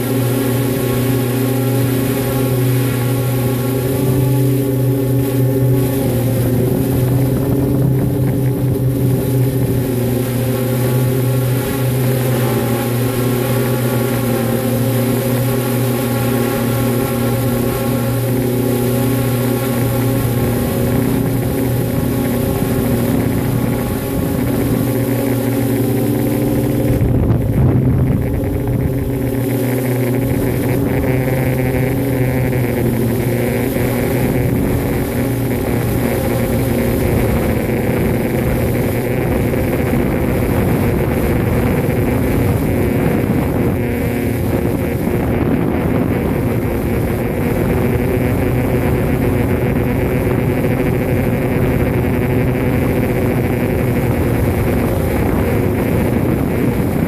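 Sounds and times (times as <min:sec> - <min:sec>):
drone motors humming: 0:00.0 - 0:57.0.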